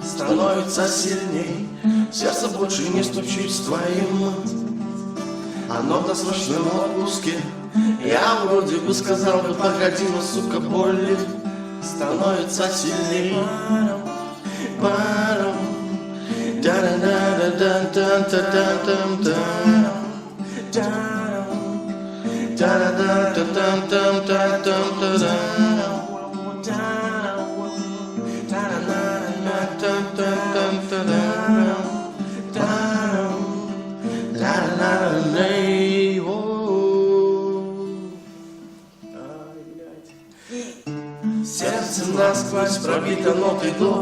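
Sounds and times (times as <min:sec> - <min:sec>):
plucked guitar: 0:00.0 - 0:44.0.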